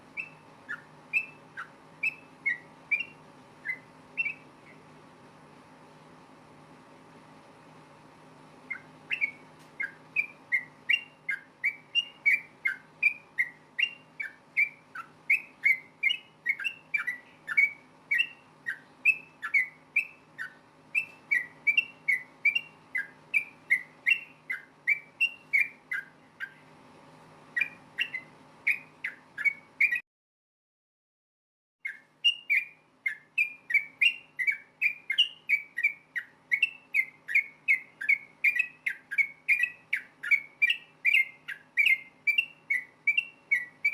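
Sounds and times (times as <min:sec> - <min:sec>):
faint steady hum: 0:00.0 - 0:30.0, 0:31.8 - 0:43.9
bird singing bubbly whistles: 0:00.1 - 0:04.8, 0:08.7 - 0:26.6, 0:27.6 - 0:30.0, 0:31.9 - 0:43.9.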